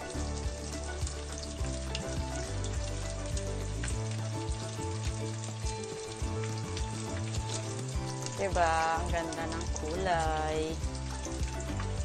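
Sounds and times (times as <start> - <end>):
cutlet sizzling in hot oil: 0.0 - 12.0.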